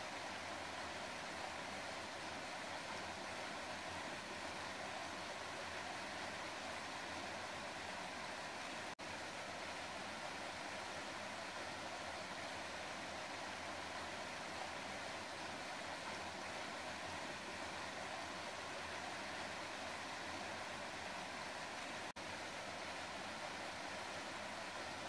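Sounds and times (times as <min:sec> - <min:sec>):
rushing flowing water: 0:00.0 - 0:25.0.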